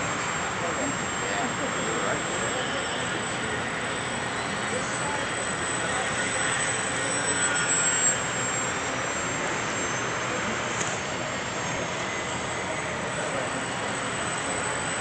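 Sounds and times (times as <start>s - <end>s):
model airplane motor whine: 0.0s - 15.0s.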